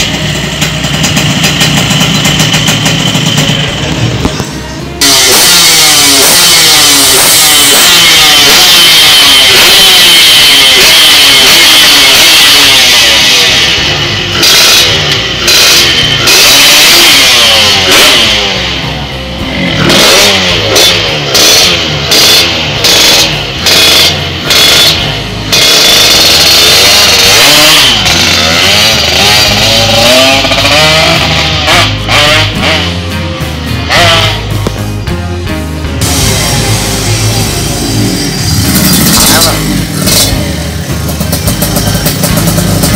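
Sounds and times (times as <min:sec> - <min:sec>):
two-stroke engine revving: 0:00.0 - 0:34.8, 0:36.0 - 0:42.9.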